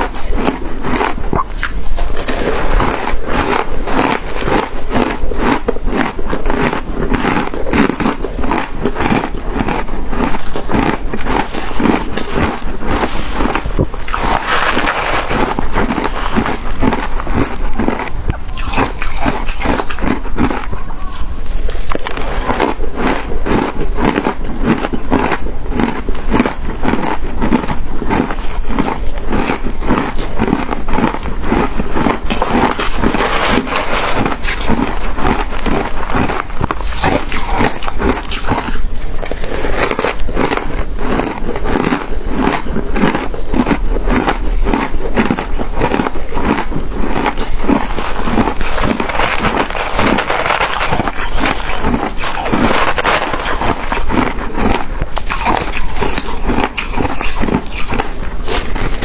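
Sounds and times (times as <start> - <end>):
shaved ice being chewed: 0.0 - 59.0.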